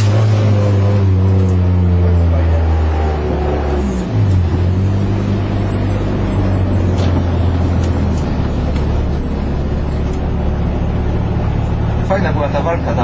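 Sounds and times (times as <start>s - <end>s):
rally car engine from inside: 0.0s - 13.0s.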